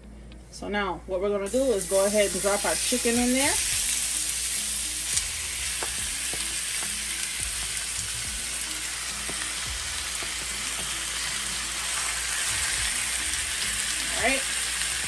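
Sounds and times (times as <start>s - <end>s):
chicken sizzling in oil: 1.5s - 15.0s.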